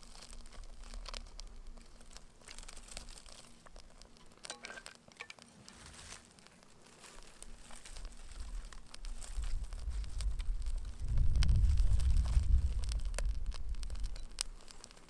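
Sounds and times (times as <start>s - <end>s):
fire striker scrape: 0.0s - 15.0s
hands crumpling dry tinder: 0.0s - 15.0s.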